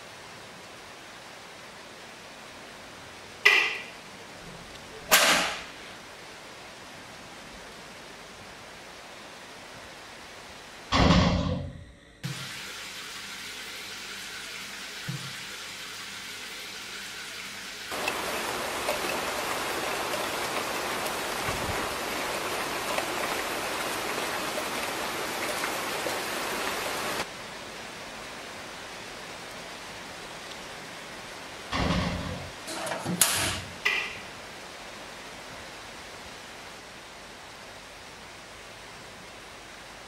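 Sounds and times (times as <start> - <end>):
heavy rain: 0.0 - 11.4, 12.2 - 40.0
steady low hiss: 0.0 - 40.0.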